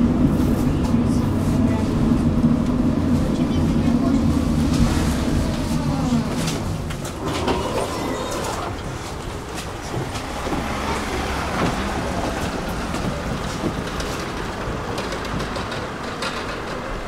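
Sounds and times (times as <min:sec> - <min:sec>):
tram rumble: 0:00.0 - 0:17.0
wheels clicking on track: 0:00.1 - 0:17.0.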